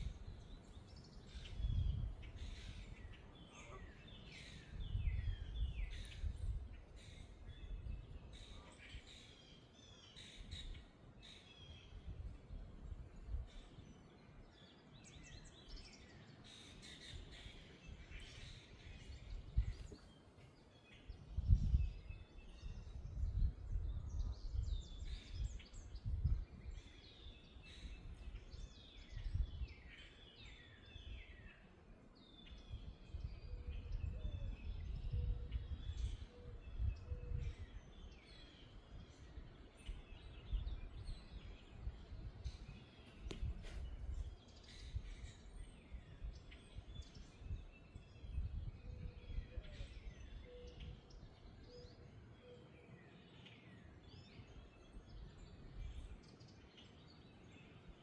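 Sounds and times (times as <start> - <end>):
low rumbling wind gusts: 0.0 - 13.8, 14.5 - 20.2, 20.8 - 51.6
songbirds chirping and singing: 0.0 - 58.0.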